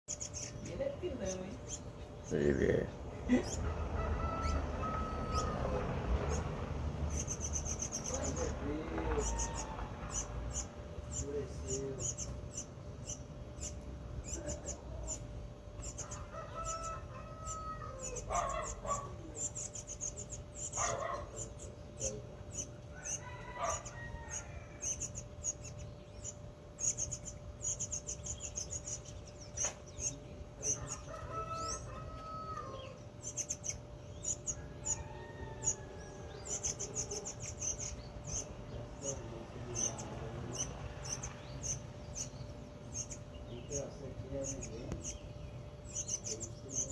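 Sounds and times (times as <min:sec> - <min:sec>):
rapid high-pitched bird chirps: 0:00.1 - 0:02.4, 0:06.2 - 0:08.6, 0:09.2 - 0:32.0, 0:32.8 - 0:35.0, 0:35.6 - 0:46.9.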